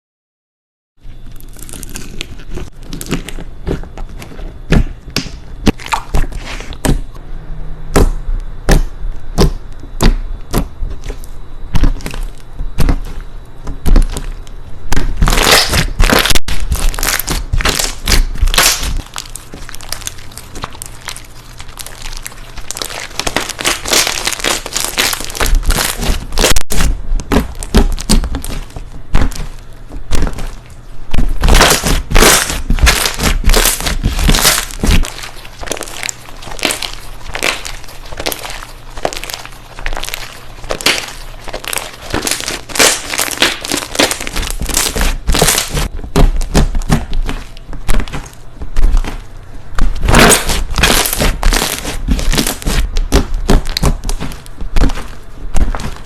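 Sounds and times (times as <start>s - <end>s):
slime squeezed crackling and popping: 1.3s - 6.9s, 8.7s - 56.0s.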